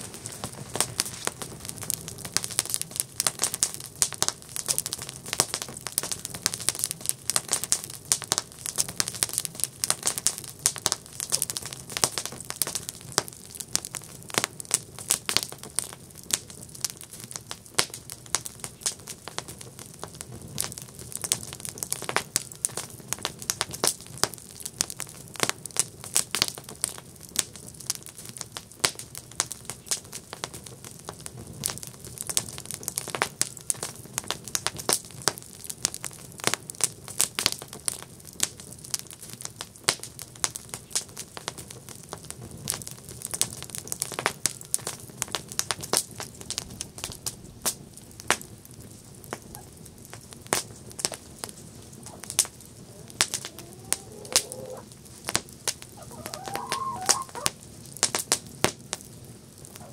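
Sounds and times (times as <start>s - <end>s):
campfire crackling and popping: 0.0s - 59.9s
soft hiss of burning: 0.0s - 59.9s.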